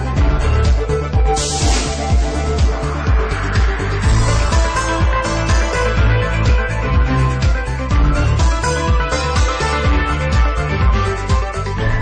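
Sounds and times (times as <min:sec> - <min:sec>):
electronic synthesizer music: 0:00.0 - 0:12.0.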